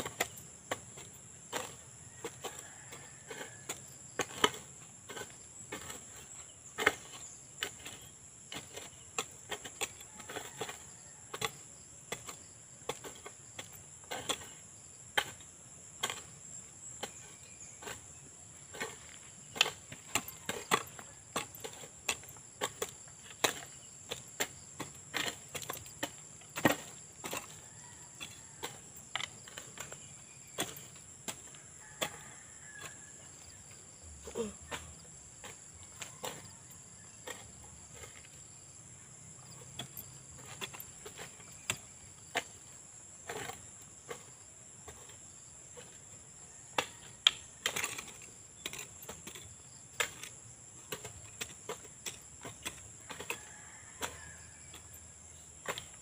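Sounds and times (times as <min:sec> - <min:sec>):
crickets droning: 0:00.0 - 0:56.0
hoes chopping into soil: 0:00.0 - 0:56.0.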